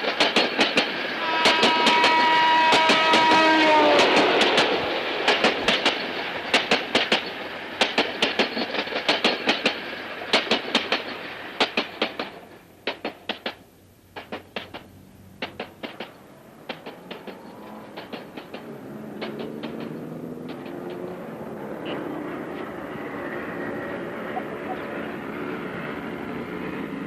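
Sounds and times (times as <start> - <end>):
train rumble: 0.0 - 27.0
train wheels clacking on rails: 0.0 - 27.0.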